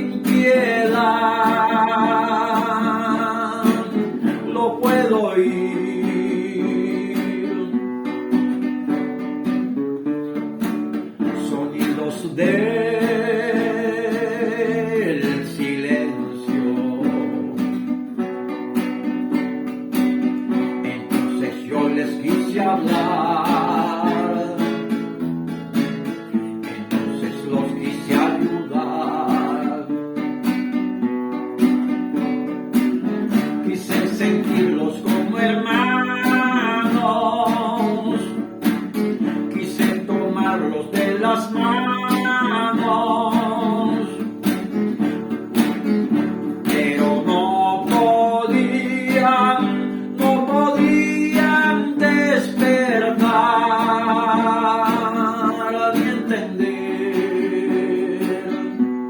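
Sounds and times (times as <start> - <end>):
acoustic guitar music: 0.0 - 59.0.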